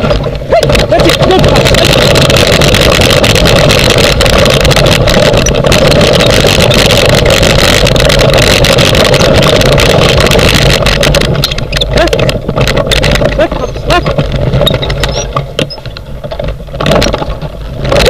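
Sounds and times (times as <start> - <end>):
frame rattling and knocking: 0.0 - 18.0
wheels and wind rushing: 0.0 - 18.0.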